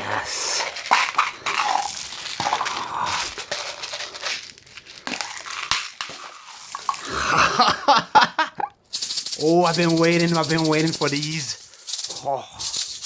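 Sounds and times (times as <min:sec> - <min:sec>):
plastic wrappers crinkling: 0:00.5 - 0:07.3, 0:08.9 - 0:13.0
small candies clicking: 0:00.5 - 0:07.3, 0:08.9 - 0:13.0.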